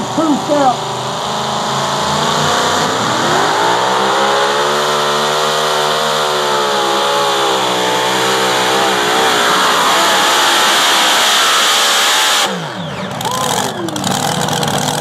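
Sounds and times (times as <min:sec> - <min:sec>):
truck engine at full throttle: 0:00.0 - 0:15.0.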